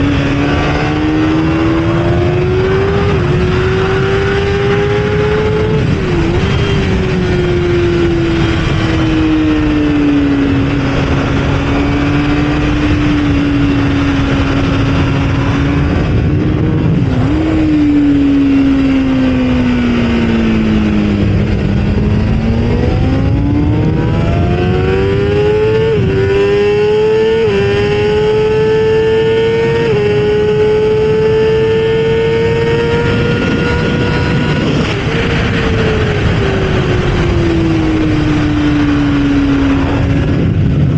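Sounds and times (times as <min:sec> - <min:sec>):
sport motorcycle engine: 0:00.0 - 0:40.9.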